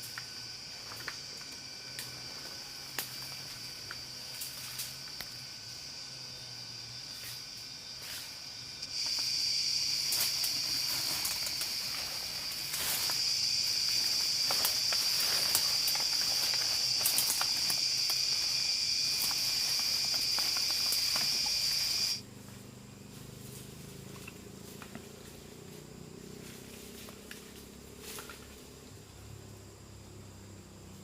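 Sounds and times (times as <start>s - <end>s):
insect buzzing call: 0.0s - 31.0s.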